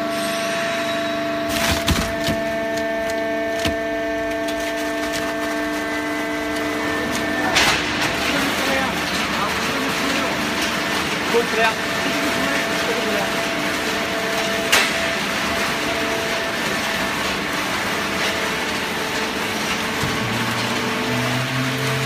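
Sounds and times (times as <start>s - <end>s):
baler machine hum: 1.2s - 22.0s.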